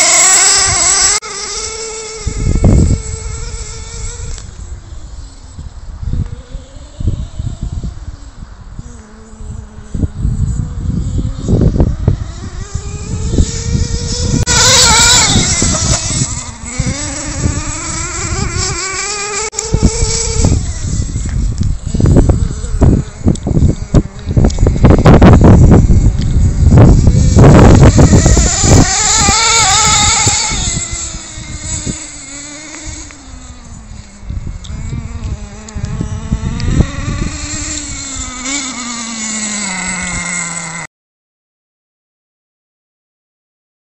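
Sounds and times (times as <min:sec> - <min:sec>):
small nitro engine buzzing: 0:00.0 - 0:40.9.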